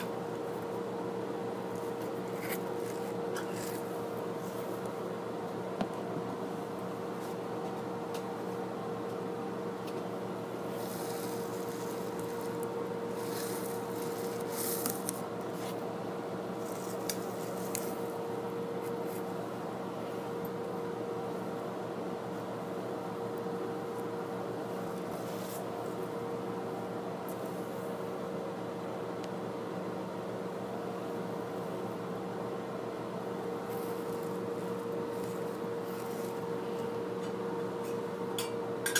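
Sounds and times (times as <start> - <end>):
background hum with held tone: 0.0 - 38.9.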